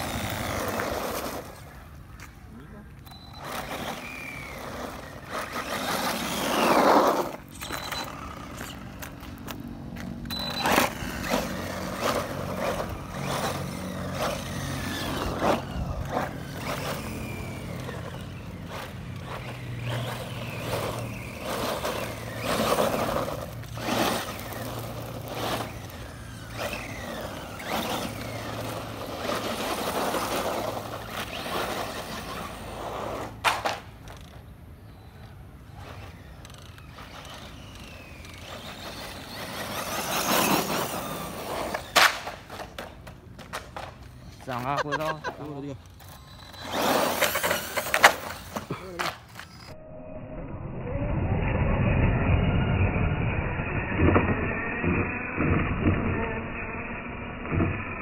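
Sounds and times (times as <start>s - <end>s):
tyres scrabbling on gritty asphalt: 0.0s - 49.8s
rc truck electric motors whining: 0.0s - 58.0s.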